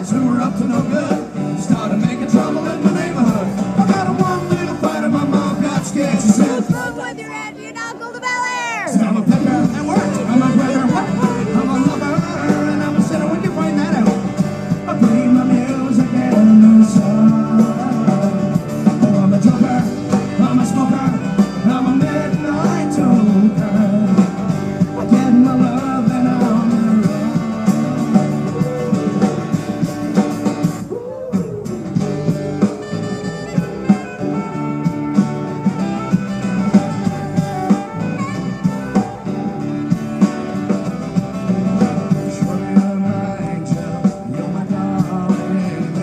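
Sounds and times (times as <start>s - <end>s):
person singing: 0.0s - 29.9s, 30.9s - 39.6s, 41.9s - 46.0s
live band music over pa: 0.0s - 46.0s.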